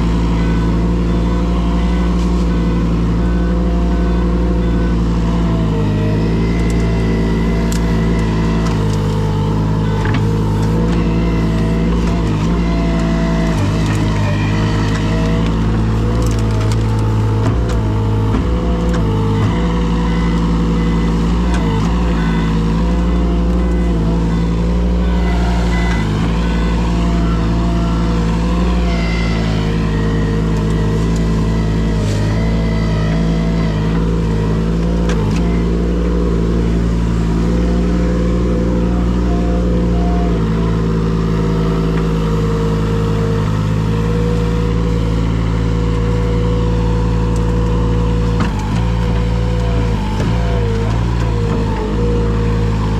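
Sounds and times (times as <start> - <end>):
large engine running: 0.0 - 52.9.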